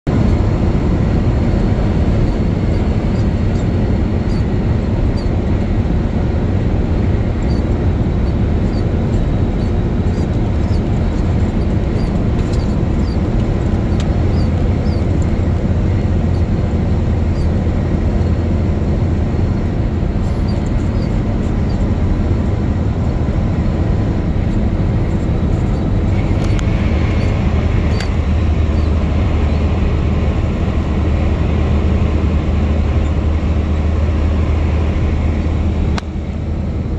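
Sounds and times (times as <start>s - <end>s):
vehicle engine and road noise: 0.0s - 36.9s.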